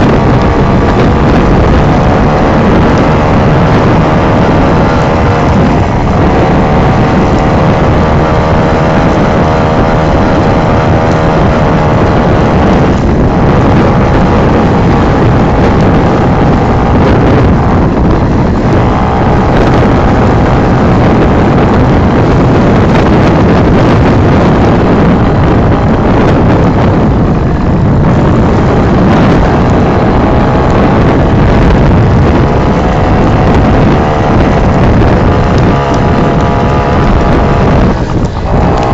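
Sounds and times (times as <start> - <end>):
moped engine revving: 0.0 - 38.9.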